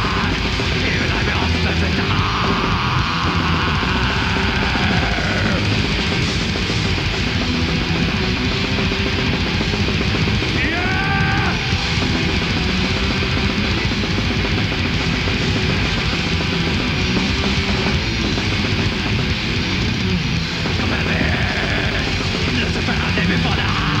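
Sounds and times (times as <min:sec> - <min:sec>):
black metal band playing live: 0:00.0 - 0:24.0.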